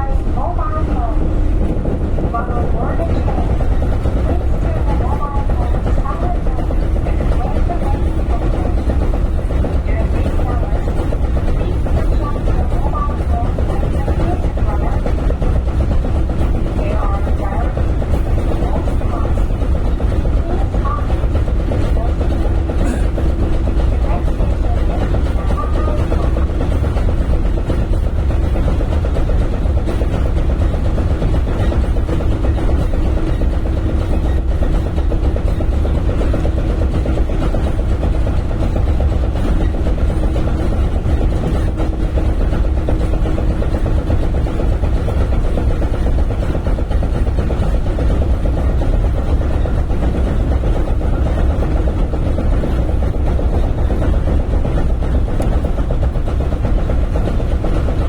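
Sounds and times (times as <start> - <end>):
steady hum: 0.0 - 58.0
train rumbling: 0.0 - 58.0.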